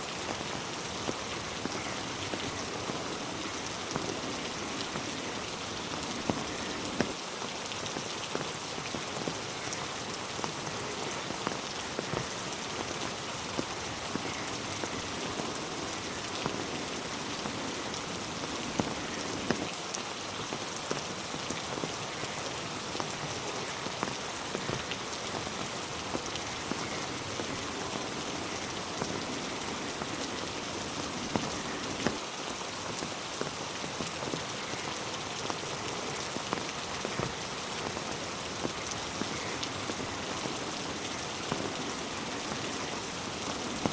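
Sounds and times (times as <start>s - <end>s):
rain hissing on road: 0.0s - 43.9s
water drips ticking: 0.3s - 19.7s, 22.9s - 32.2s, 32.8s - 43.9s.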